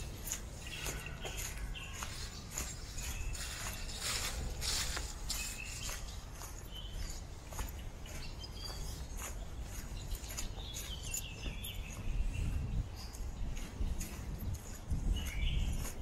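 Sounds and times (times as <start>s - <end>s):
footsteps crunching on dry leaves: 0.0s - 16.0s
songbirds chirping: 0.0s - 16.0s.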